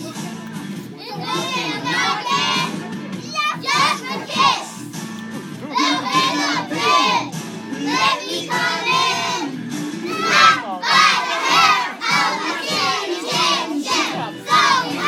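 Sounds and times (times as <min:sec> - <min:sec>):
children chanting loudly: 0:01.0 - 0:04.7, 0:05.6 - 0:15.0.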